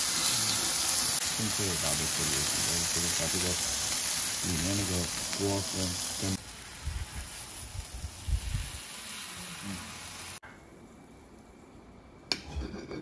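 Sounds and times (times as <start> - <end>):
steaks sizzling on barbecue: 0.0 - 10.4.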